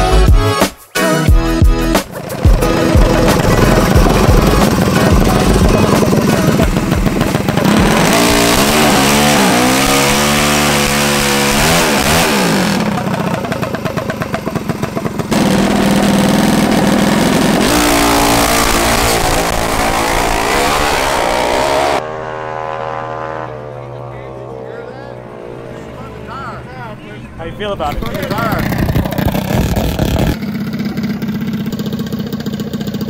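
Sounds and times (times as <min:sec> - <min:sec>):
minibike engine revving: 0:02.0 - 0:33.0.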